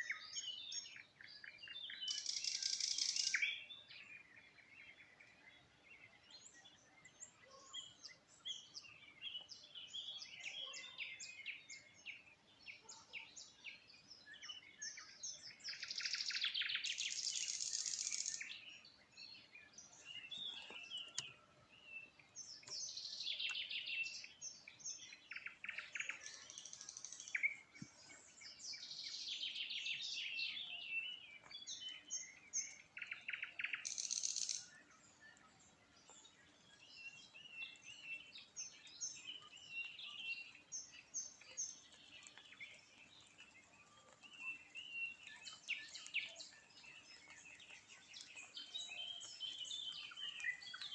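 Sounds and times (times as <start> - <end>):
songbirds singing trills: 0.0 - 50.9.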